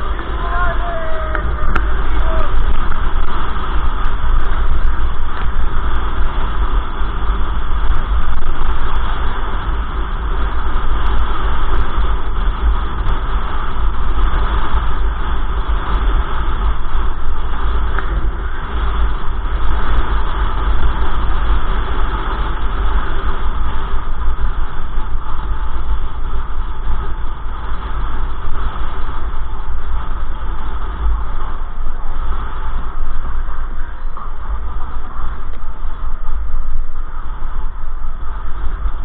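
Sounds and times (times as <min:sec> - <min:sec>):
low road rumble: 0:00.0 - 0:39.0
wind buffeting microphone: 0:00.0 - 0:39.0.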